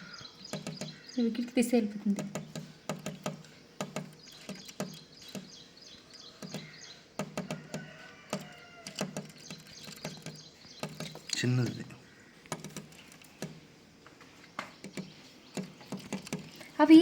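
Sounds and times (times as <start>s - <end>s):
small birds chirping: 0.0s - 17.0s
sharp taps: 0.2s - 11.5s, 12.4s - 13.6s, 14.6s - 16.7s.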